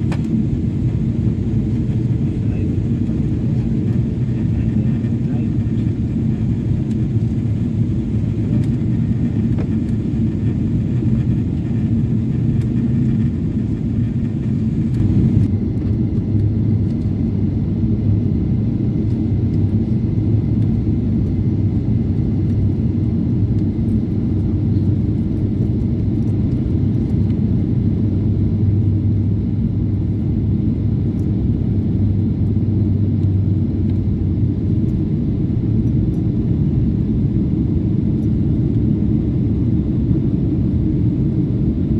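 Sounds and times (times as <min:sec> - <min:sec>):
airliner engines rumbling in cabin: 0:00.0 - 0:41.9.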